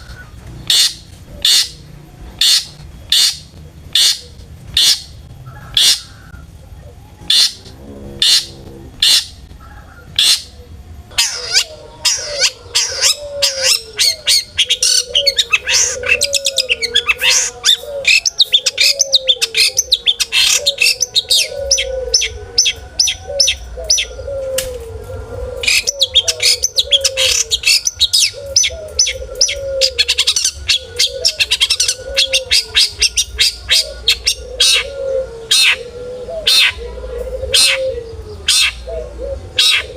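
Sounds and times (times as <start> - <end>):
low repeated cooing: 0.0 - 39.9
shrike calls and chattering song: 0.0 - 39.9.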